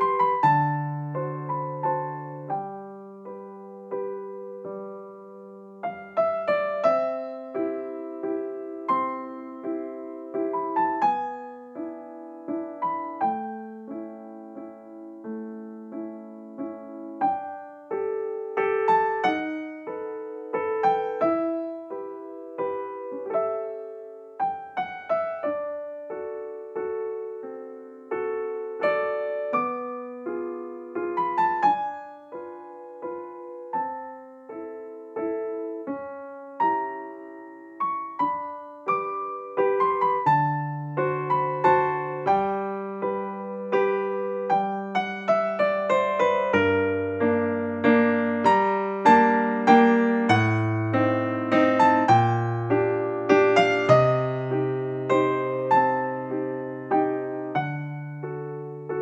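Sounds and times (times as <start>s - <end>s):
gentle piano melody: 0.0s - 59.0s.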